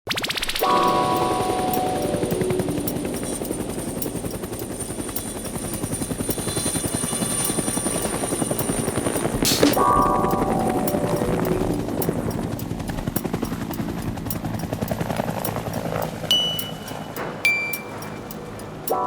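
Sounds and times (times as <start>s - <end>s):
music: 0.6s - 19.0s.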